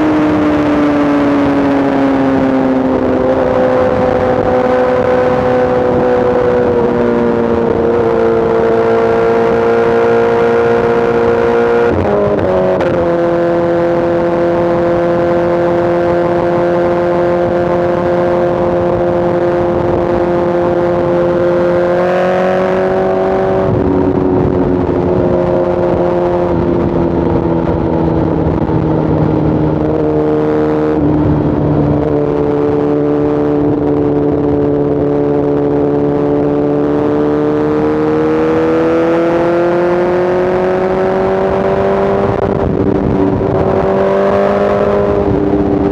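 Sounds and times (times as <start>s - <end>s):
motorcycle engine and exhaust: 0.0s - 45.9s
wind rushing: 0.0s - 45.9s.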